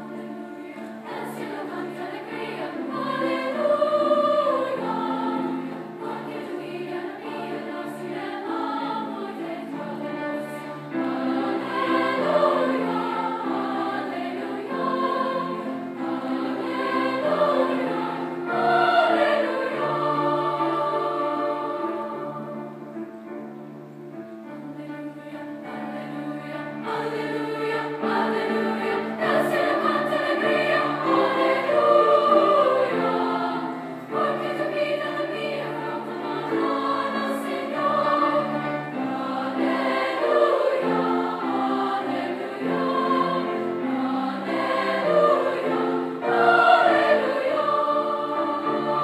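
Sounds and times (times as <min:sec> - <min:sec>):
choir singing in parts: 0:00.0 - 0:23.6, 0:24.5 - 0:49.0.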